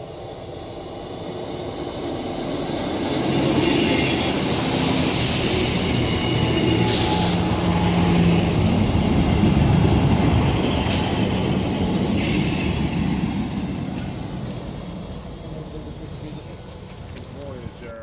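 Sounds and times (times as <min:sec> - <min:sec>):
train engine hum: 0:00.0 - 0:18.0
train wheel noise on rails: 0:00.0 - 0:18.0.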